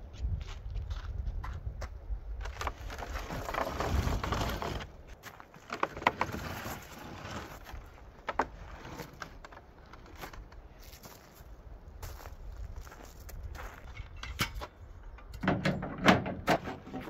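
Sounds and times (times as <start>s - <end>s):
footsteps on frozen snowy ground: 0.0s - 13.9s.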